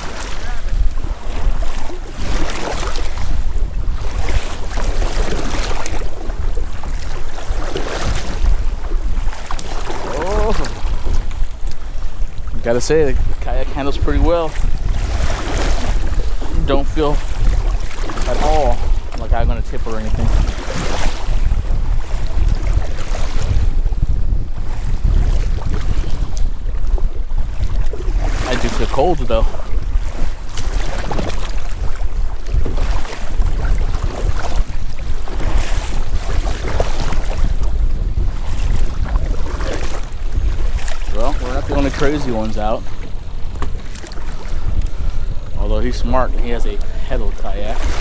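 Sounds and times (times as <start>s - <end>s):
water splashing from kayak paddling: 0.0s - 48.0s
wind buffeting microphone: 0.0s - 48.0s.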